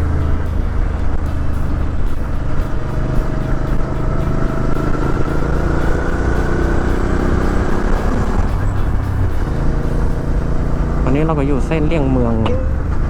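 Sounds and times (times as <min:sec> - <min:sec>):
motorcycle engine at low speed: 0:00.0 - 0:13.0.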